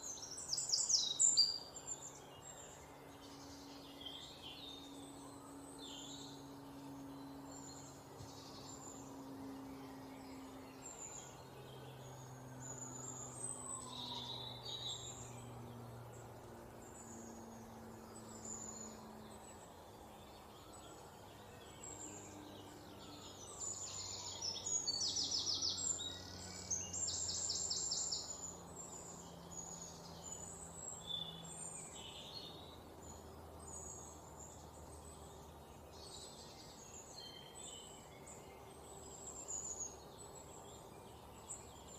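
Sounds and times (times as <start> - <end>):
forest background: 0.0 - 41.9
rapid trilled birdsong: 0.0 - 41.9
songbirds singing and chirping: 0.0 - 41.9.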